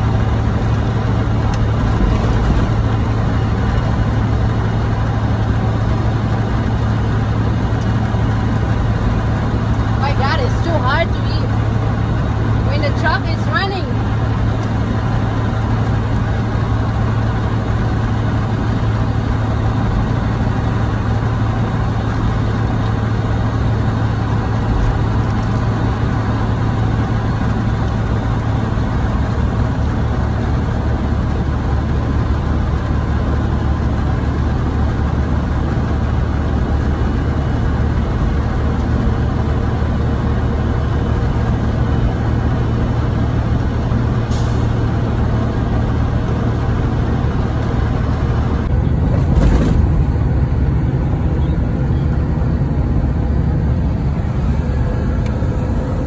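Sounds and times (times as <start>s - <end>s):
truck engine drone from inside cab: 0.0s - 56.0s.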